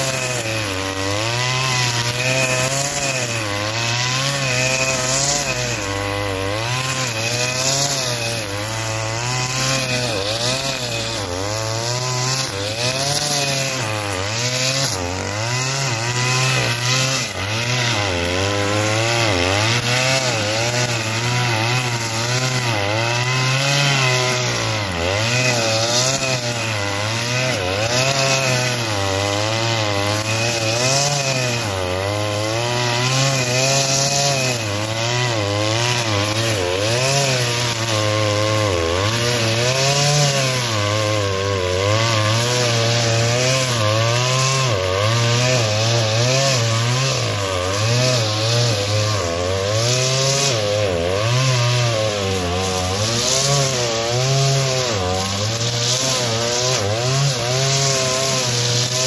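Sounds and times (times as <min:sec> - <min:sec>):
brushcutter cutting grass: 0:00.0 - 0:59.0.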